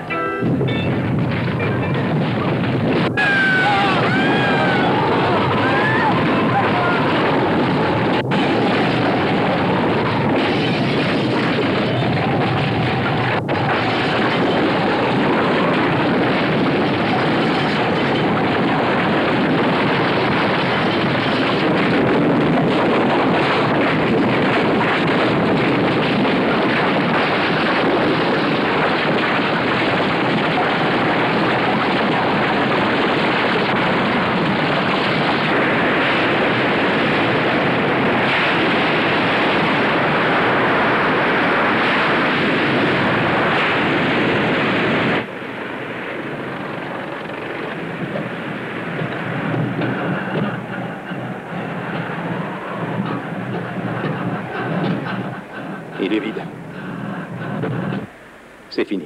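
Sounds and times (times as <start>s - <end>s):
crashing surf: 0.0s - 59.0s
storm wind rushing: 0.0s - 59.0s.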